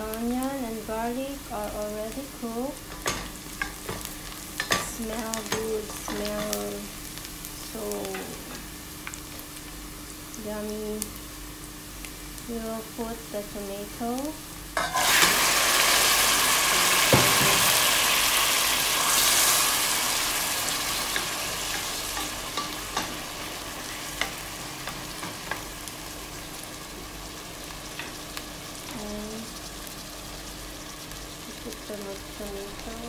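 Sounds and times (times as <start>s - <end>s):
tomatoes sizzling in oil: 0.0s - 33.0s.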